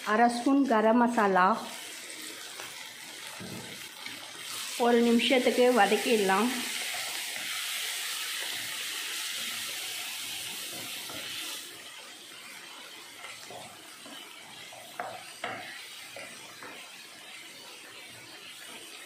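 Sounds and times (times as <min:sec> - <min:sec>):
food sizzling in oil: 0:00.0 - 0:19.0
spatula scraping and stirring: 0:03.4 - 0:19.0.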